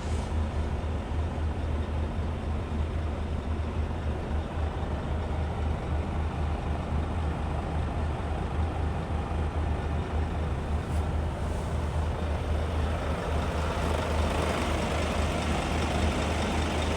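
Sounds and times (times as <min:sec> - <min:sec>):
diesel truck engine running: 0:00.0 - 0:16.9.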